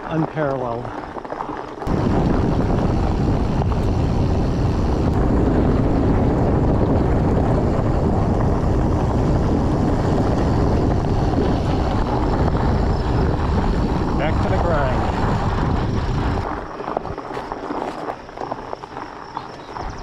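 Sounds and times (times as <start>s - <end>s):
bike tires rolling on gravel: 0.0s - 20.0s
wind noise on microphone: 0.0s - 20.0s.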